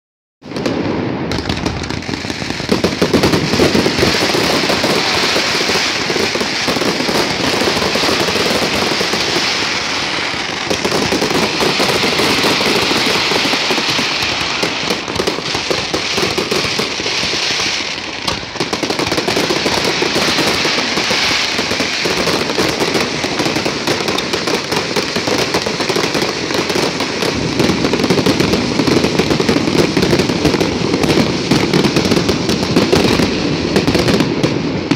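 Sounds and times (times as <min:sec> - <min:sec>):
fireworks bursting and crackling: 0:00.4 - 0:34.9.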